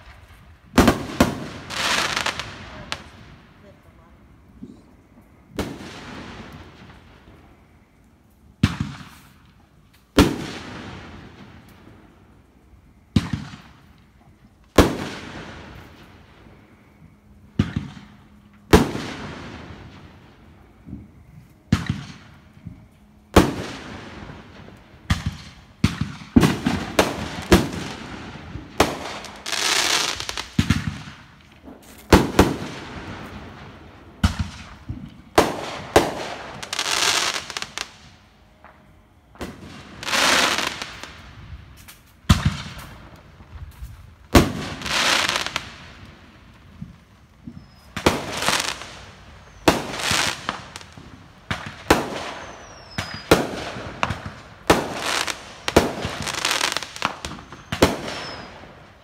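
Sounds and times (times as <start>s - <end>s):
fireworks bangs: 0.0s - 7.7s, 8.6s - 12.1s, 13.0s - 59.0s
hissing crackle of fireworks: 0.0s - 59.0s.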